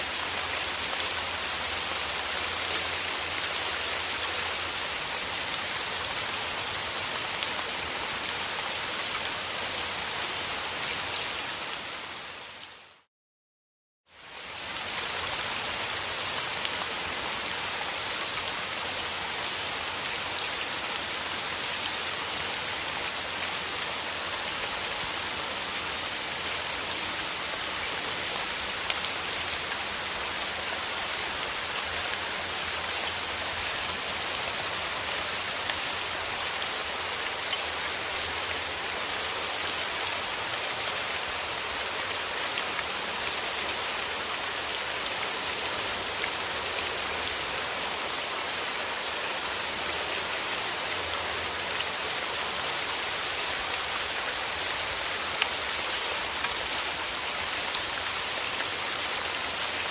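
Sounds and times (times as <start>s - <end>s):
steady rain falling: 0.0s - 13.1s, 14.1s - 59.9s.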